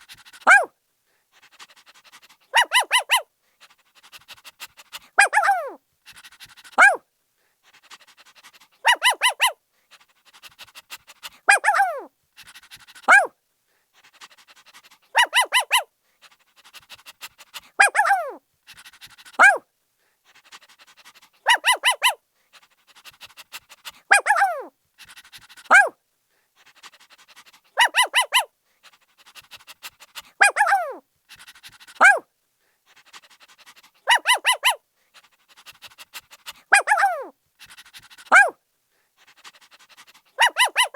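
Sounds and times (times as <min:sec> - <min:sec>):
puppy yapping and yelping: 0:00.0 - 0:00.7, 0:01.4 - 0:07.0, 0:07.9 - 0:09.6, 0:10.2 - 0:13.3, 0:14.2 - 0:19.6, 0:20.4 - 0:26.0, 0:26.8 - 0:32.3, 0:32.9 - 0:38.6, 0:39.3 - 0:40.9.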